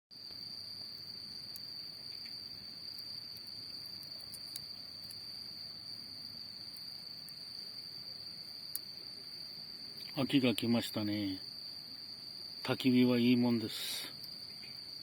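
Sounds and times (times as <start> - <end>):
insects chirring: 0.1 - 15.0
campfire crackling: 0.2 - 15.0.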